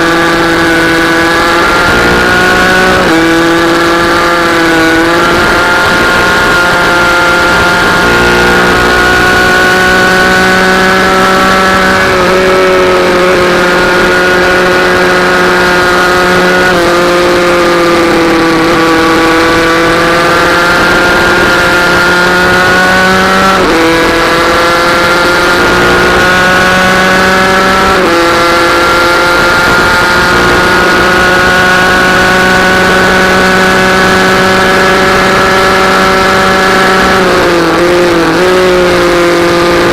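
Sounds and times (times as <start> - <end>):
minibike engine at high revs: 0.0 - 39.9.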